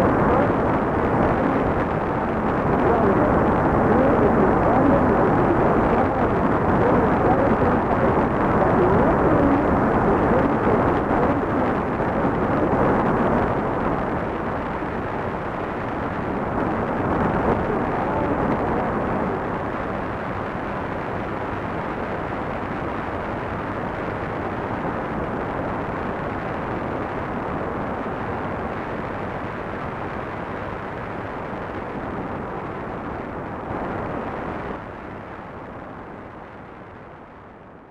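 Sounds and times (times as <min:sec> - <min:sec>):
faint wavering broadcast: 0:00.0 - 0:37.9
radio static hiss: 0:00.0 - 0:37.9.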